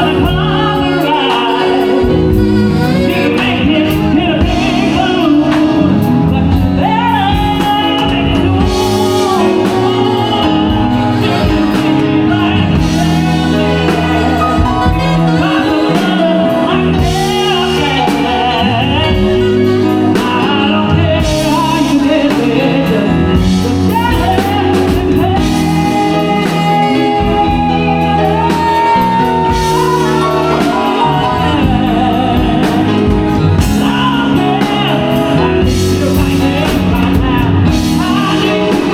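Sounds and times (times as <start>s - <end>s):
live band music: 0.0s - 38.9s
person singing: 0.0s - 38.9s.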